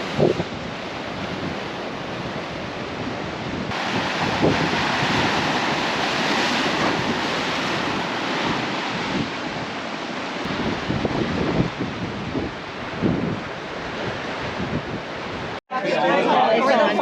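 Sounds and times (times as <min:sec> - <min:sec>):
wind buffeting microphone: 0:00.0 - 0:15.6
ocean surf washing: 0:00.0 - 0:17.0.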